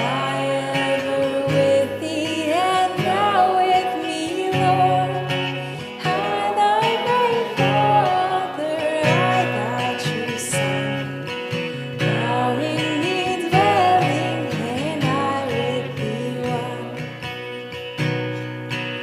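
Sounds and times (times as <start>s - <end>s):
people singing a hymn: 0.0s - 11.1s, 11.7s - 17.0s
acoustic guitar strumming: 0.0s - 19.0s.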